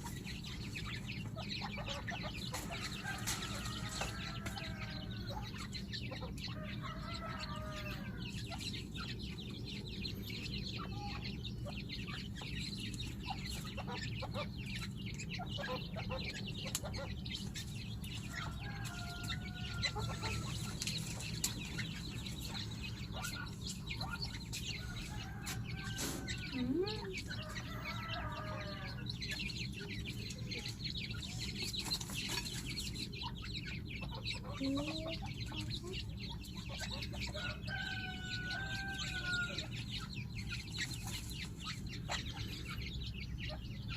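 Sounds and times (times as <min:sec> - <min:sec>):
chicks peeping: 0:00.0 - 0:43.9
francolins clucking: 0:00.0 - 0:43.9.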